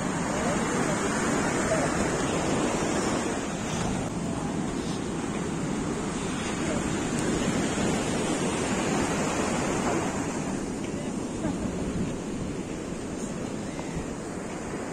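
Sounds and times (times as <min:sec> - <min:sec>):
surf washing onto beach: 0:00.0 - 0:14.9
wind buffeting microphone: 0:00.0 - 0:14.9.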